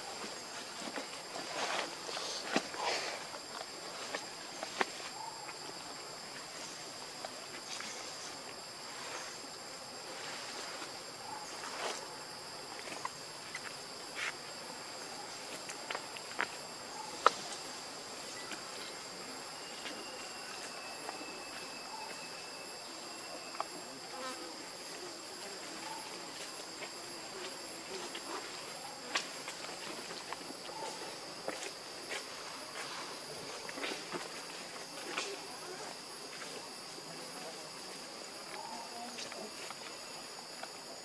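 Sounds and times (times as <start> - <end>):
insects calling: 0.0 - 41.0.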